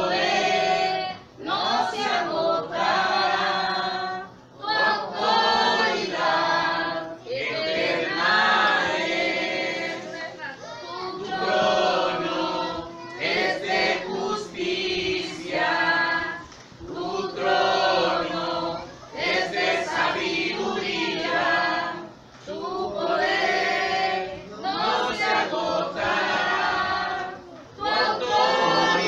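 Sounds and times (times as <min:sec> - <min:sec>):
congregation singing: 0:00.0 - 0:29.0.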